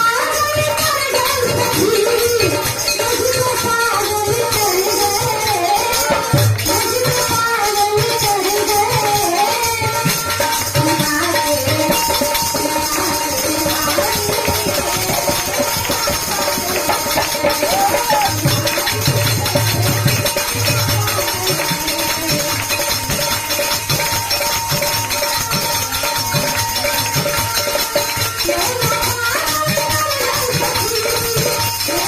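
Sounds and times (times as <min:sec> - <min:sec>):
fast percussion: 0:00.0 - 0:32.0.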